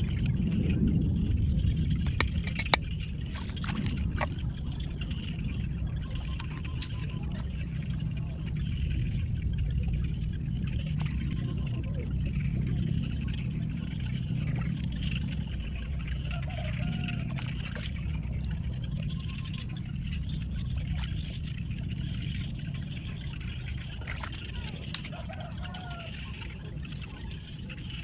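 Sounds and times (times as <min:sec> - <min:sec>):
steady low rumble: 0:00.0 - 0:28.0
water trickling: 0:00.0 - 0:28.0.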